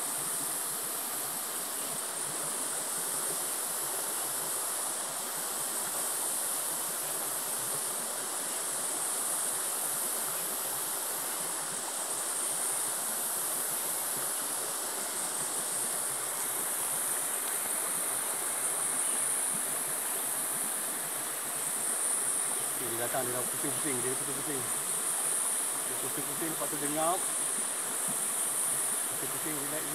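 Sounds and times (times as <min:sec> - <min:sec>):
high-pitched insect chorus: 0:00.0 - 0:29.9
rushing hiss: 0:00.0 - 0:29.9.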